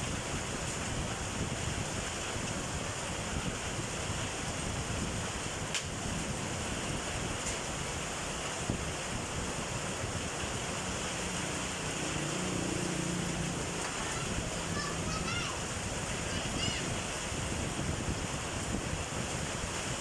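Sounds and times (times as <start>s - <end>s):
heavy rain and hail: 0.0s - 20.0s.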